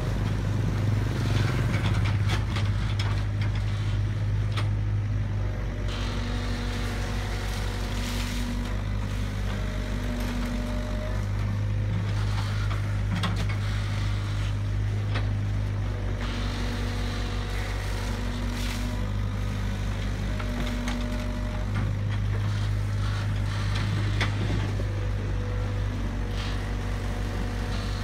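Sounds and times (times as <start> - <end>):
excavator diesel engine running: 0.0 - 28.0
hydraulic whine: 0.0 - 28.0.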